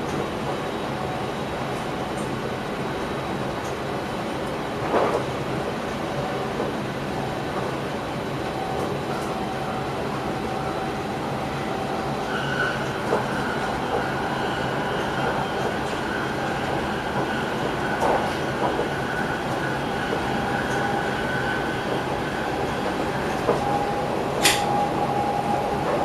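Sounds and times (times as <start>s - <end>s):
train rumbling along track: 0.0s - 26.0s.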